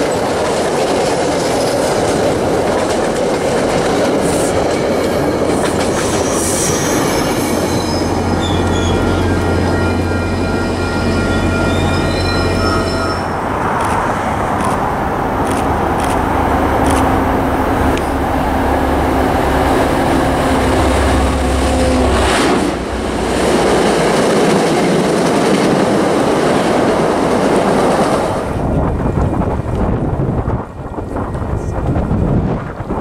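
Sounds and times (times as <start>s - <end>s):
commuter train passing: 0.0s - 33.0s.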